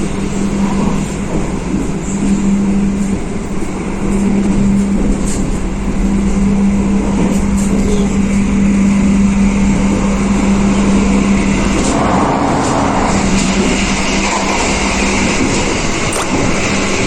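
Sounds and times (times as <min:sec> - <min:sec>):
rushing noise: 0:00.0 - 0:17.0
train carriage low rumble: 0:00.0 - 0:17.0
steady hum: 0:01.9 - 0:17.0.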